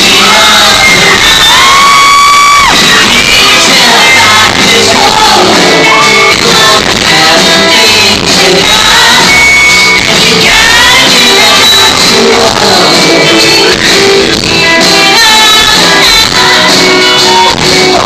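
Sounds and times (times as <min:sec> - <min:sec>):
live band playing pop-rock: 0:00.0 - 0:18.0
person singing: 0:00.0 - 0:18.0.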